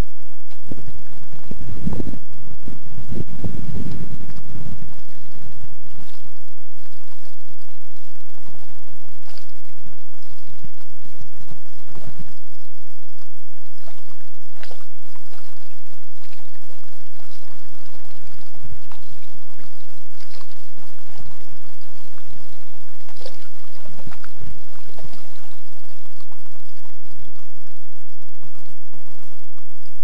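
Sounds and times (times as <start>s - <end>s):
paddle splashing in water: 0.0s - 29.9s.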